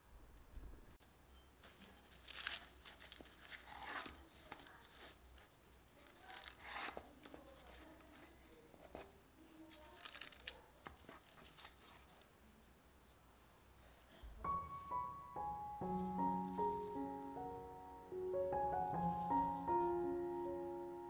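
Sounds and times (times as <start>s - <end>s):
parchment paper rustling: 1.6s - 15.0s, 15.8s - 17.7s, 18.3s - 20.9s.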